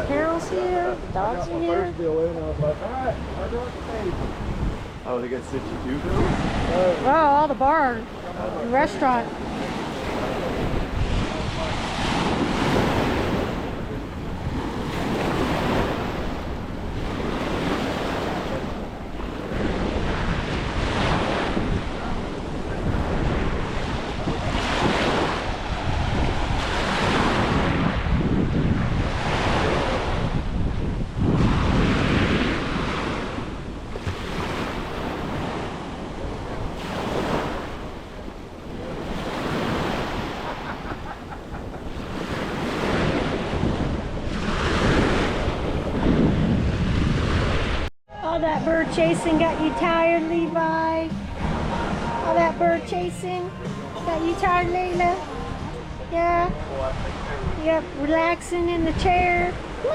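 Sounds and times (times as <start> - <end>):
surf breaking on beach: 0.0 - 59.9
wind buffeting microphone: 0.0 - 59.9.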